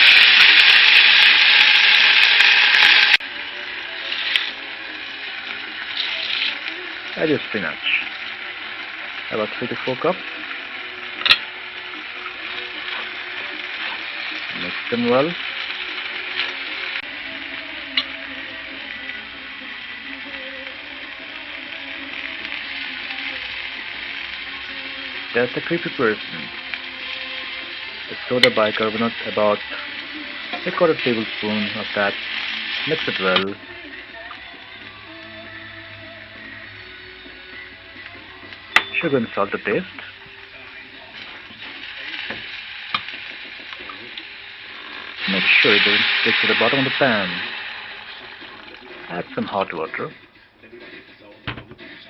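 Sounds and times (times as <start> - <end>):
oil sizzling in a pan: 0.0 - 52.0.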